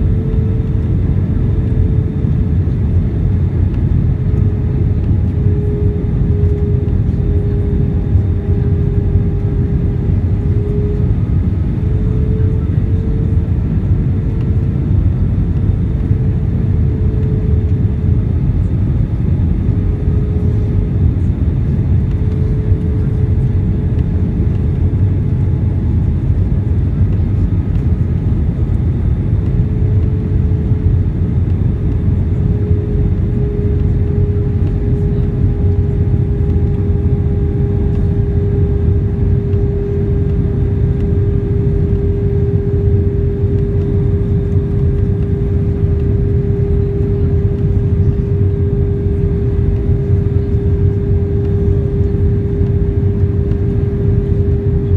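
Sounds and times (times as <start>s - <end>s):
airplane cabin rumble: 0.0s - 54.9s
jet engine whine: 0.0s - 54.9s.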